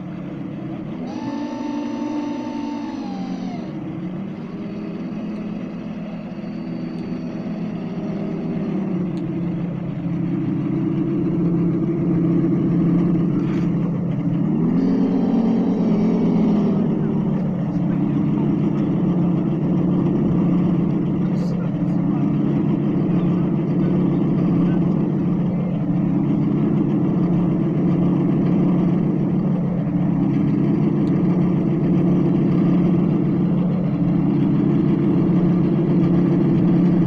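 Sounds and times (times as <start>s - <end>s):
high whine: 0.0s - 37.0s
model boat engine drone: 0.0s - 37.0s.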